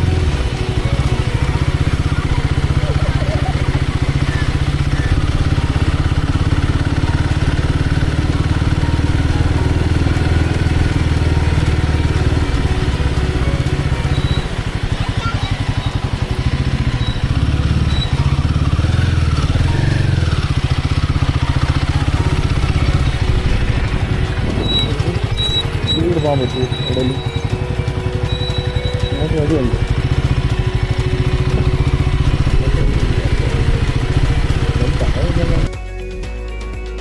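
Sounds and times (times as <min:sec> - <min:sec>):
motorcycle engine running: 0:00.0 - 0:36.4.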